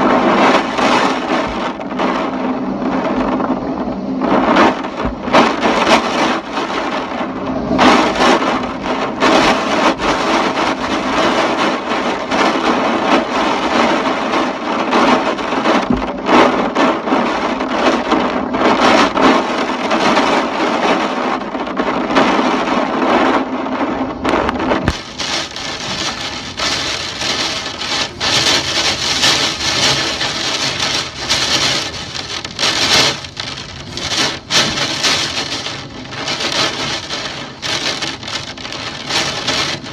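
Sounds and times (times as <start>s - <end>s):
gusting storm wind: 0.0s - 39.9s
rain hiss: 0.0s - 39.9s
sharp knocks and cracks: 4.2s - 23.3s, 24.2s - 39.9s.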